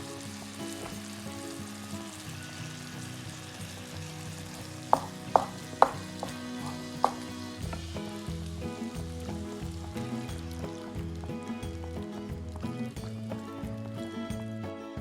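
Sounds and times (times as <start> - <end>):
food sizzling: 0.0 - 14.6
background music with bass line: 0.0 - 15.0.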